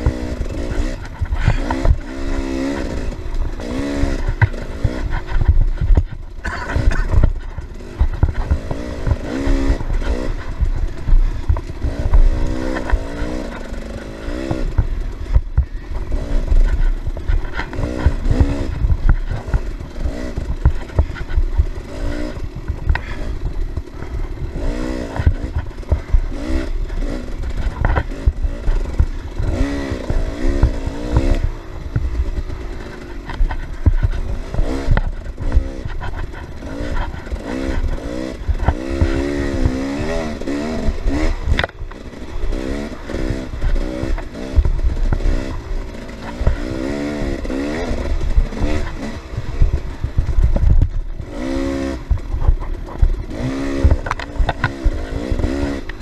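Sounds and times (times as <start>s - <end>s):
bike thumping on rough ground: 0.0s - 56.0s
dirt bike engine revving: 0.0s - 56.0s.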